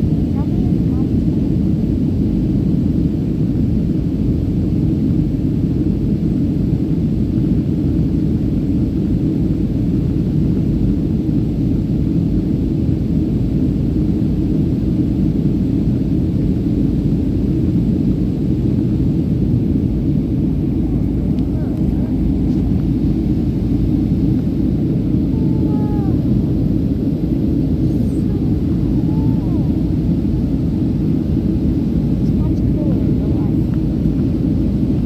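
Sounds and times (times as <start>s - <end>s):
jet engines and rushing air rumbling: 0.0s - 35.0s.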